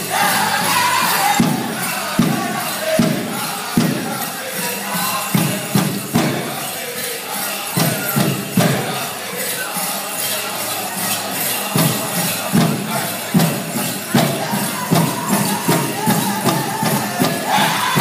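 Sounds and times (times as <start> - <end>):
bells jingling: 0.0 - 18.0
group singing high: 0.0 - 18.0.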